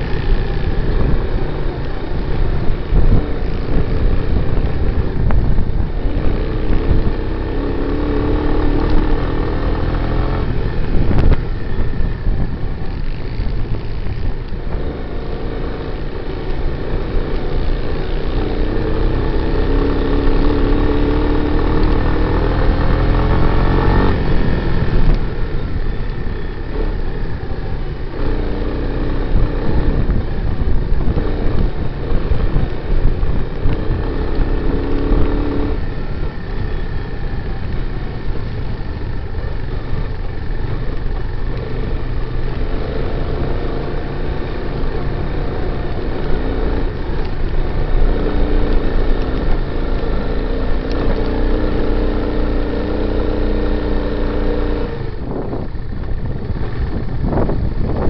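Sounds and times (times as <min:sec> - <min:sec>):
low wind rumble: 0:00.0 - 0:58.0
quad engine running: 0:00.0 - 0:58.0
smaller quad engine nearby: 0:00.0 - 0:58.0.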